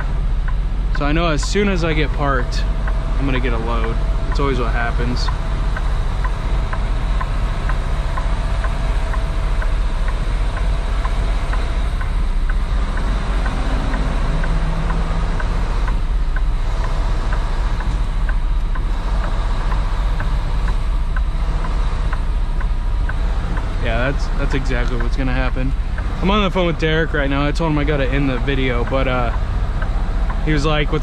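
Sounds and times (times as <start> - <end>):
faint even ticking: 0.0 - 31.0
truck diesel engine rumbling: 0.0 - 31.0.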